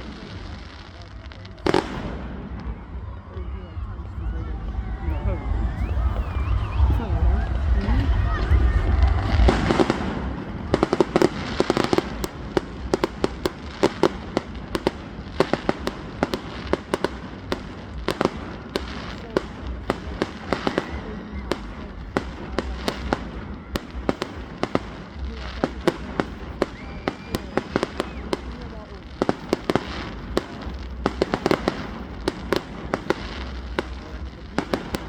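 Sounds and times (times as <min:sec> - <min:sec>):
fireworks cracking and popping: 0:00.0 - 0:35.0.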